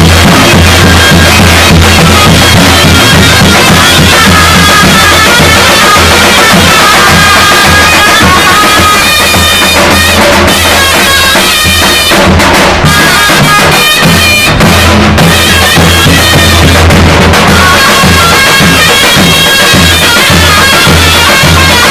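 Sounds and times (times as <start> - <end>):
bass drum beat: 0.0 - 21.9
zurna shrill melody: 0.0 - 21.9.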